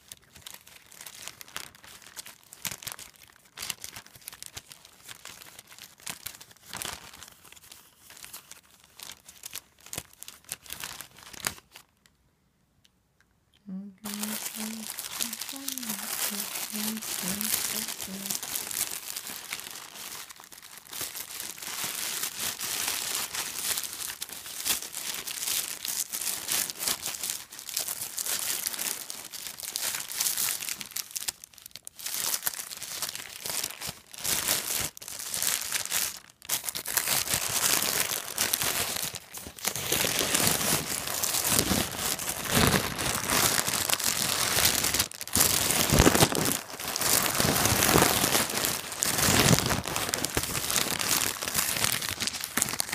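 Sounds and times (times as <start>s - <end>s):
plastic packaging crinkling: 0.0s - 12.1s, 13.8s - 52.9s.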